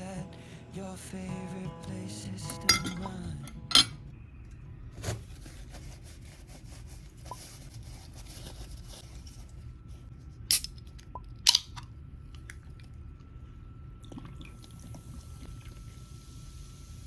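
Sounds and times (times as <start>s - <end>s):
low steady hum: 1.9s - 17.0s.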